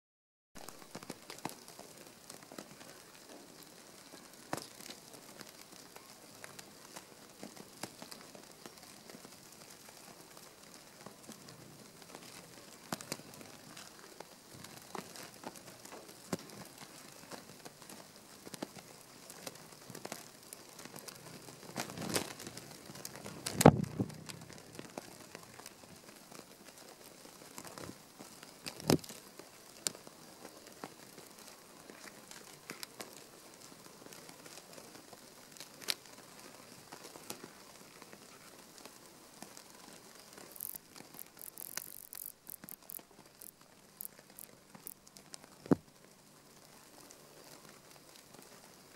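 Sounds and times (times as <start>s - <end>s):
faint clicks and crackles: 0.6s - 48.9s.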